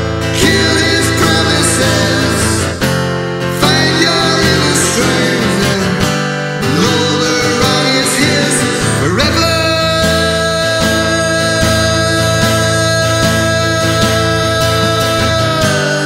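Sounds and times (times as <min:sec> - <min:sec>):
acoustic guitar strummed: 0:00.0 - 0:16.0
man singing: 0:00.0 - 0:16.0.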